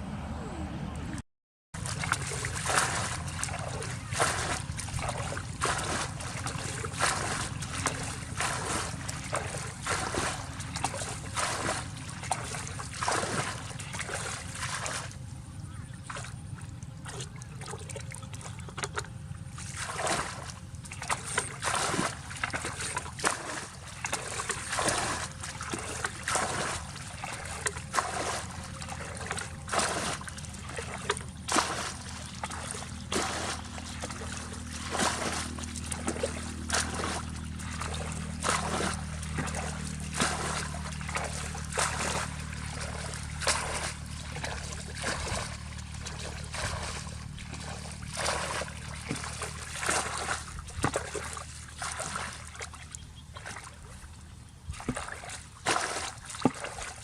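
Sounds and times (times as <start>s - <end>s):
steady low hum: 1.8s - 57.0s
water splashing and dribbling: 1.8s - 57.0s.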